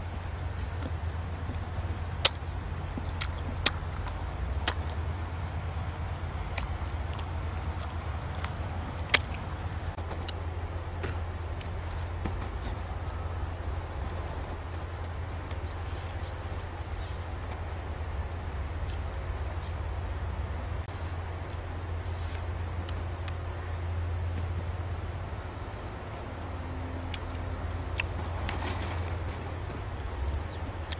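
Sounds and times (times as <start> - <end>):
constant low hum: 0.0 - 30.9
insects chirring: 0.0 - 30.9.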